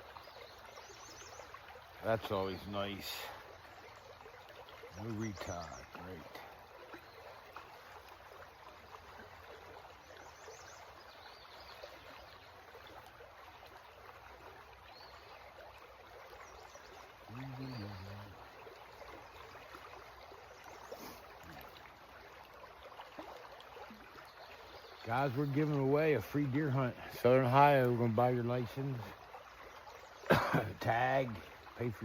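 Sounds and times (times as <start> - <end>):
creek water running: 0.0 - 32.0.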